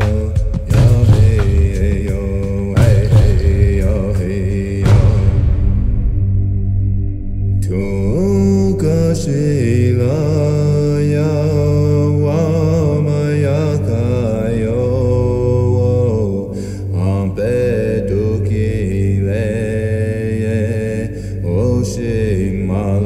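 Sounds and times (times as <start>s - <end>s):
wordless chanted singing: 0.0s - 6.0s, 7.6s - 23.0s
low steady bass: 0.0s - 23.0s.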